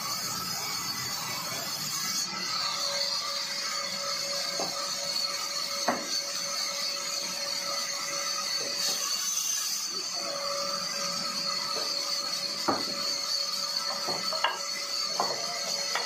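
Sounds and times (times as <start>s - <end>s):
band saw whining through timber: 0.0s - 16.0s.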